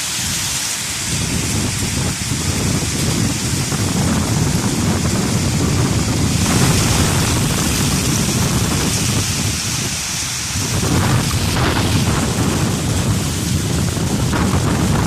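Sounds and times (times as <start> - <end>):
heavy rain and hail: 0.0 - 15.0
wind buffeting microphone: 0.0 - 15.0.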